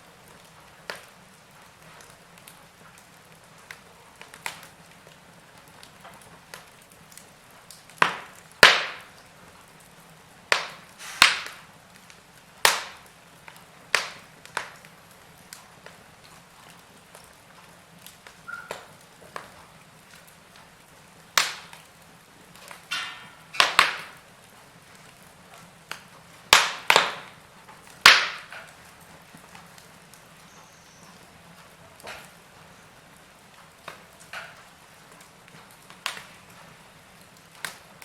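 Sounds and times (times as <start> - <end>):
log fire crackling: 0.0 - 38.0.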